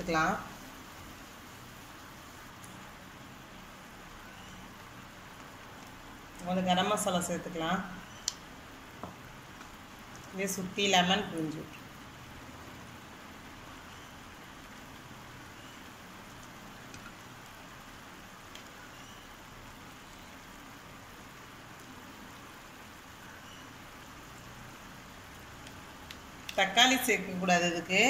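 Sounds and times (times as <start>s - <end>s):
vegetables sizzling in a pan: 0.0s - 28.0s.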